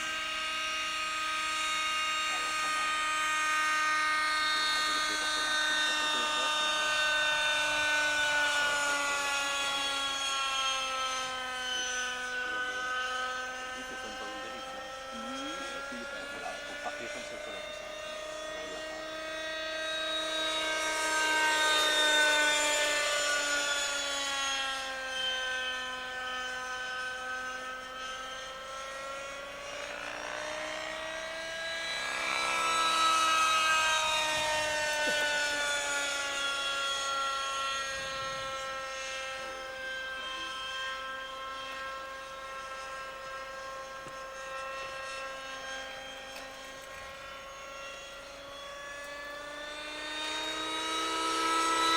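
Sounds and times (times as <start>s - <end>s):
model helicopter engine whine: 0.0s - 51.9s.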